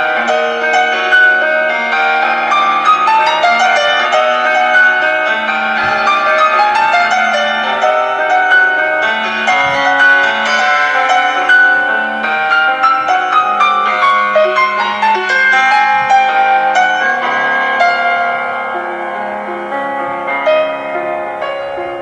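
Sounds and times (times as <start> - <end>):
classical piano music: 0.0 - 22.0.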